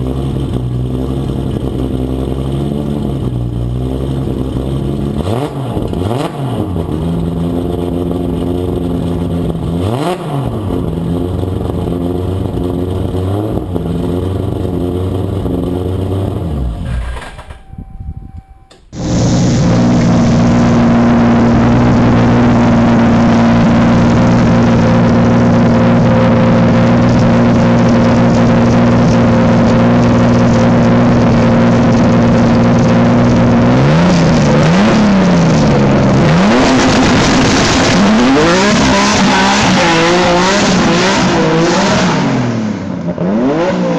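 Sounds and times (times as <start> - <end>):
car engine revving: 0.0 - 17.6, 18.9 - 43.9.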